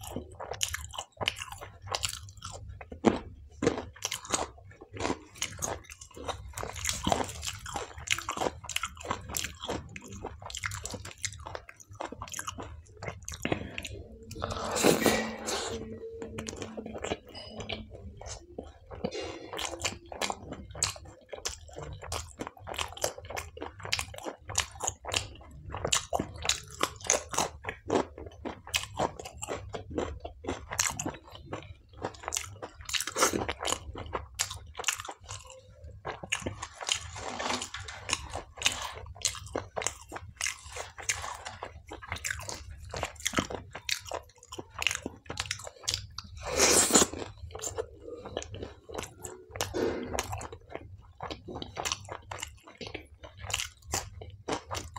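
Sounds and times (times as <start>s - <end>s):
close chewing and crunching: 0.0s - 54.9s.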